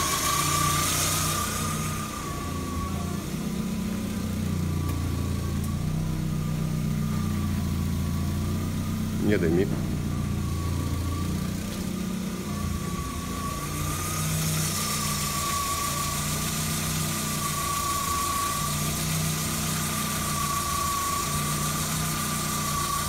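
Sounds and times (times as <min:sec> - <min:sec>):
car engine idling: 0:00.0 - 0:23.0
thin steady whine: 0:00.0 - 0:23.0.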